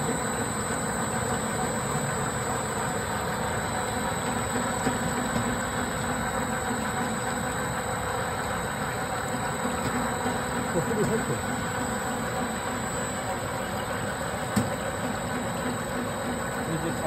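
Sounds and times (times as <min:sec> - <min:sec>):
machine running with high whine: 0:00.0 - 0:17.0.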